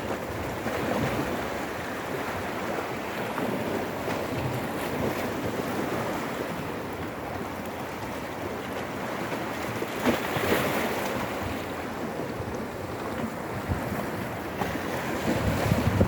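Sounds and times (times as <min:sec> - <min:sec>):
sea waves surging against rocks: 0:00.0 - 0:16.0
wave splash: 0:00.0 - 0:16.0.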